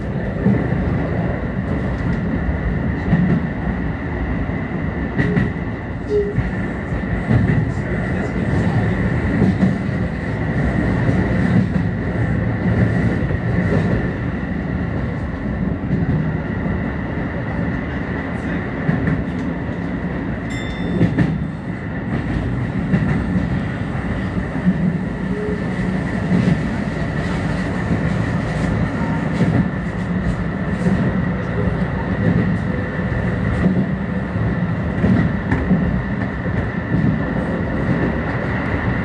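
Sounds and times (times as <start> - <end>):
electric train running rumble: 0.0 - 39.0.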